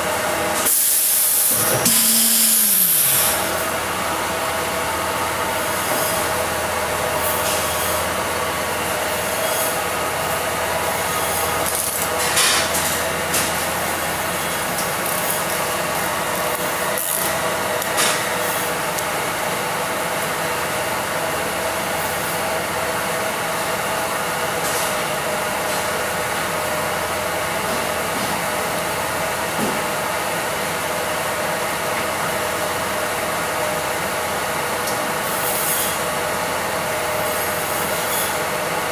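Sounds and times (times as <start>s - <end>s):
vacuum pump droning: 0.0s - 35.0s.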